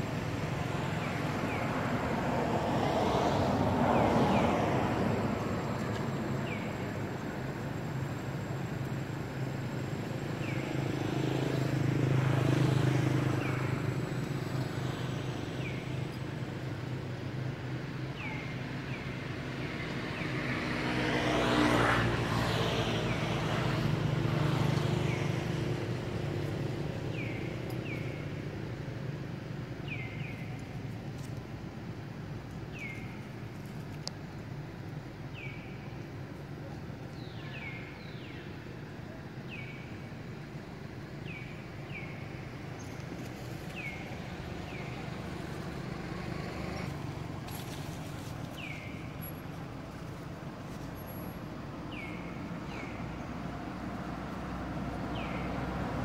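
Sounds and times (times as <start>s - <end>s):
vehicles passing on road: 0.0s - 56.0s.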